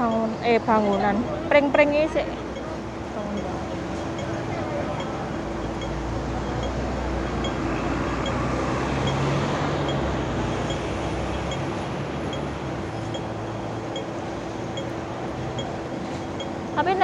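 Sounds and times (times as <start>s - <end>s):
bus engine hum: 0.0s - 17.0s
crossing signal ticking: 0.0s - 17.0s
traffic noise: 0.0s - 17.0s.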